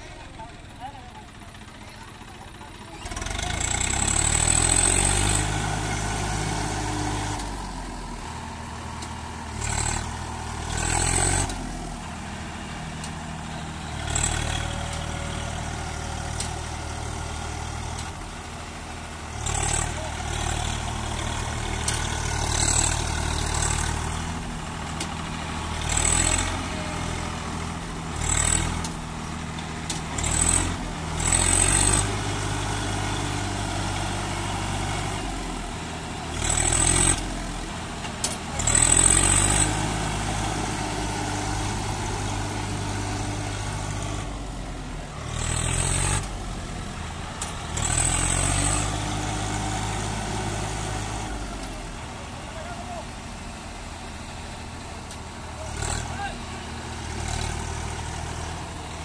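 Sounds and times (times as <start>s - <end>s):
tractor diesel engine revving: 0.0s - 59.0s.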